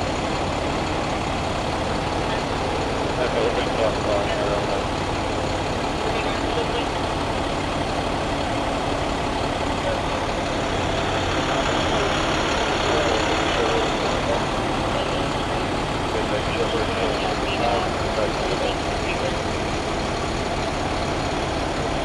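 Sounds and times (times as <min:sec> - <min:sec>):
fire truck engine idling: 0:00.0 - 0:22.0.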